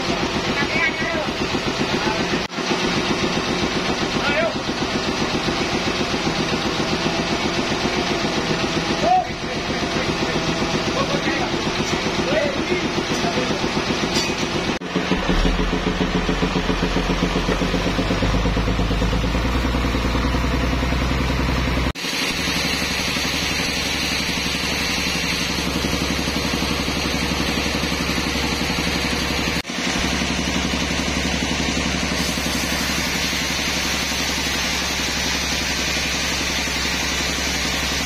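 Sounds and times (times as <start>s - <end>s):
sawmill engine pulsing: 0.0s - 38.0s.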